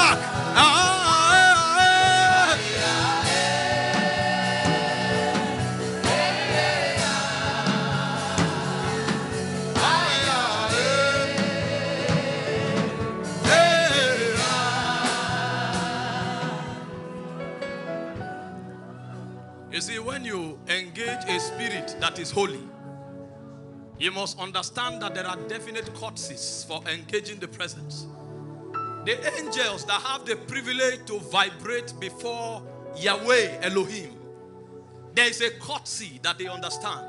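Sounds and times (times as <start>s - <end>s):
instrumental backing: 0.0s - 37.0s.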